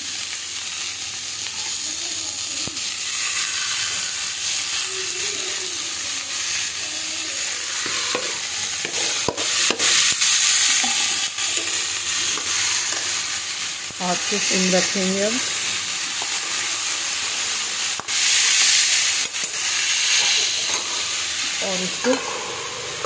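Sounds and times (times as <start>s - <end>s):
spinach sizzling in oil: 0.0s - 23.0s.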